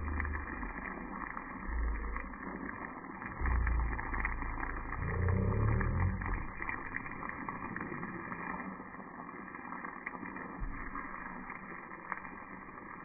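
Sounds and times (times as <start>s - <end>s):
sauce sizzling in frying pan: 0.0s - 13.0s.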